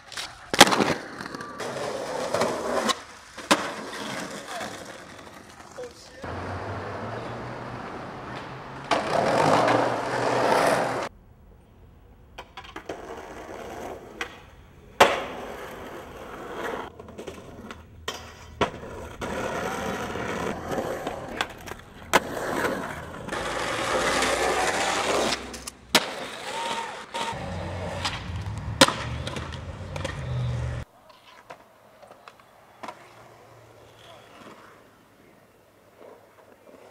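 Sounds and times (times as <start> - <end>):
skateboards rolling on concrete: 0.0 - 36.9
skateboard clacks: 0.1 - 11.1, 12.3 - 34.8.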